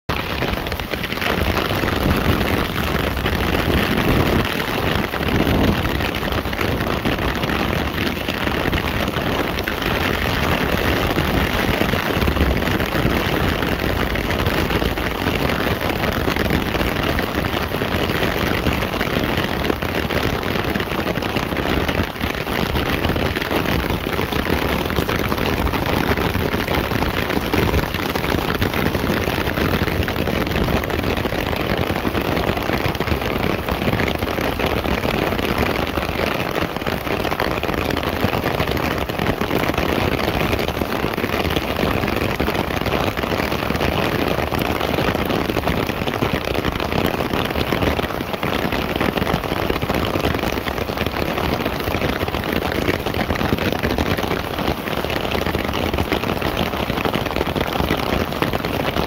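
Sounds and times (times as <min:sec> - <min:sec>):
rain drumming on plastic umbrella: 0:00.1 - 0:59.0
rain splashing on pavement: 0:00.1 - 0:59.0.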